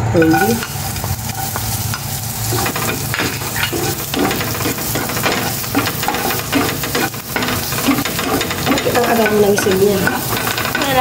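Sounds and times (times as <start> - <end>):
garlic sizzling in oil: 0.0 - 11.0
wooden spatula scraping pan: 0.2 - 11.0.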